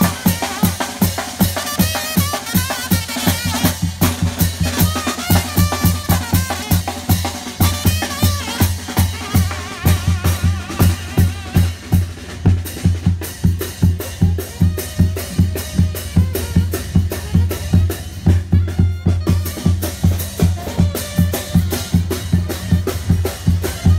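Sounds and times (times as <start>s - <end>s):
music with drums and heavy bass: 0.0s - 23.9s.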